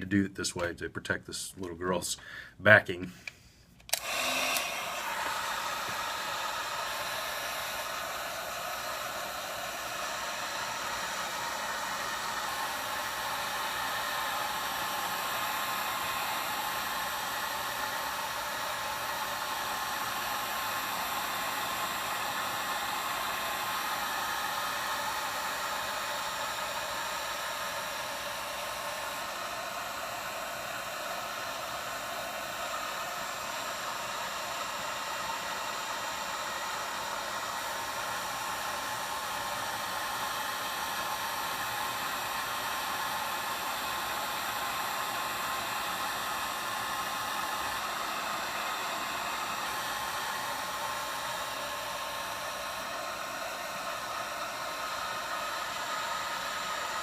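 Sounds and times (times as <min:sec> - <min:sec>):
hot-air blower whooshing: 0:03.3 - 0:57.0.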